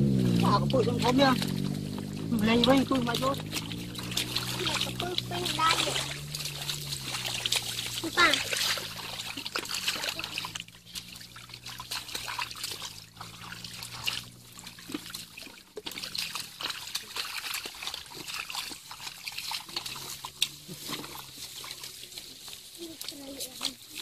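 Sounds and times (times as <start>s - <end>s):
feet squelching through wet mud: 0.0s - 24.0s.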